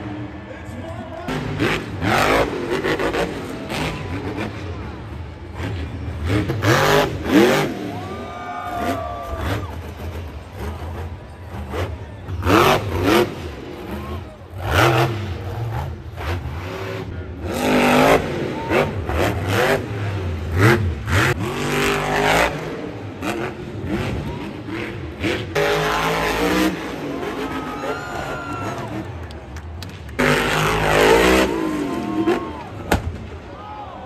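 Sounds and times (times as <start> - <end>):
truck engine revving hard: 1.3 - 29.2, 30.1 - 33.2.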